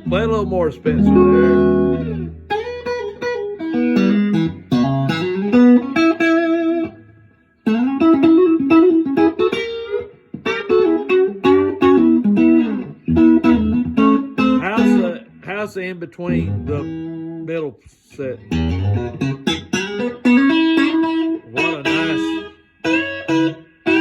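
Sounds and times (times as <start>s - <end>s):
electric guitar playing melody and chords: 0.0s - 17.6s, 18.2s - 24.0s.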